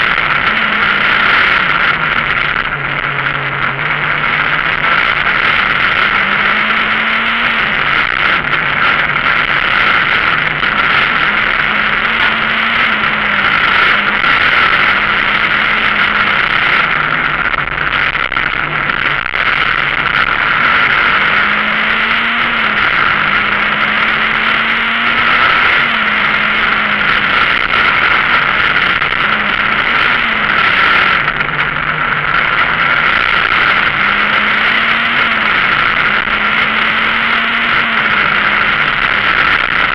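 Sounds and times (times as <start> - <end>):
rally car engine at full throttle: 0.0 - 39.9
road and cabin noise: 0.0 - 39.9.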